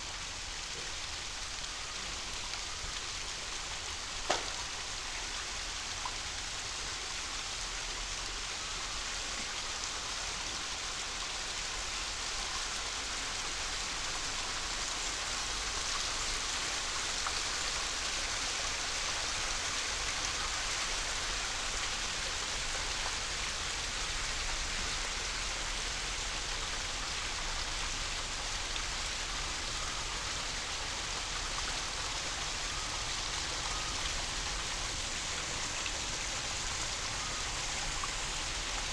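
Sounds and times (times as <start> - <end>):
waterfall splashing over rocks: 0.0 - 38.9.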